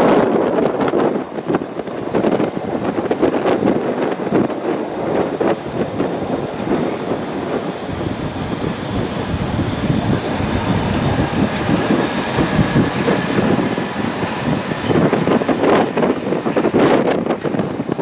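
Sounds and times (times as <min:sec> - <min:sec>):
train rumbling past on rails: 0:00.0 - 0:18.0.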